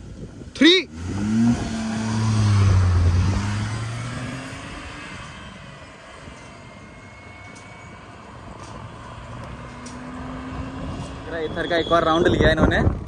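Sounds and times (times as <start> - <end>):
car engine at full throttle: 0.0 - 11.6.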